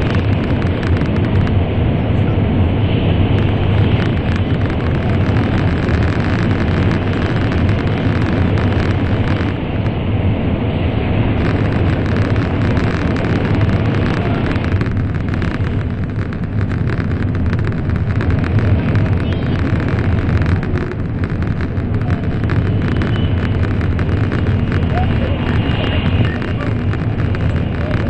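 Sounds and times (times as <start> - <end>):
train rumbling in tunnel: 0.0 - 28.0.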